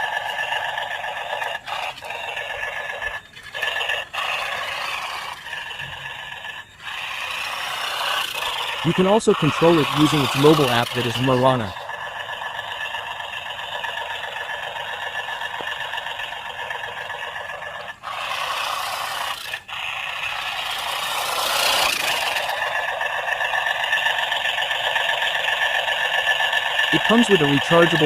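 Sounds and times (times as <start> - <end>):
toy tractor mechanical whir: 0.0 - 28.0.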